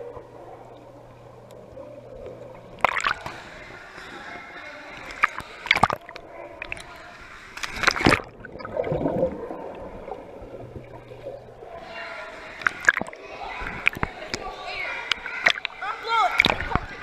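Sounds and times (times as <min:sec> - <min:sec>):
muffled underwater bubbling: 0:00.0 - 0:17.0
pool water splashing: 0:00.0 - 0:17.0.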